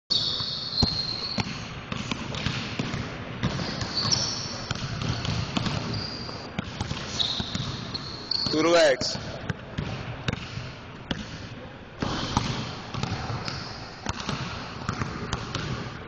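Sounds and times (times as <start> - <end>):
basketballs bouncing on wooden floor: 0.1 - 11.4, 12.0 - 16.0.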